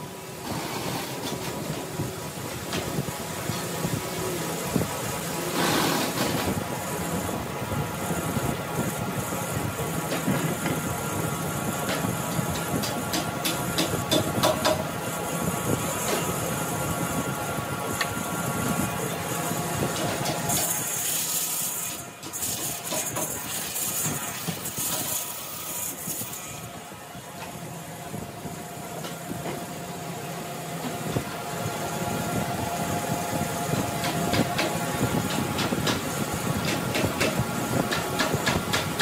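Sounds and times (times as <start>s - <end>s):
workshop machine whining hum: 0.0s - 39.0s.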